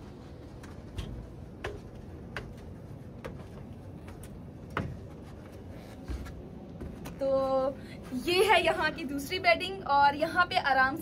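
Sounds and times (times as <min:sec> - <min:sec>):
footsteps climbing steps: 0:00.0 - 0:08.9.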